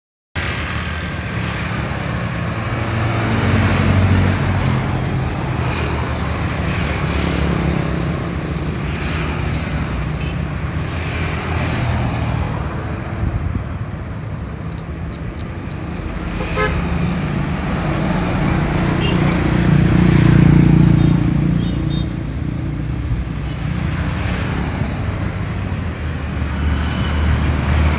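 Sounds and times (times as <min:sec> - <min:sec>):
motorbikes and cars passing: 0:00.4 - 0:27.9.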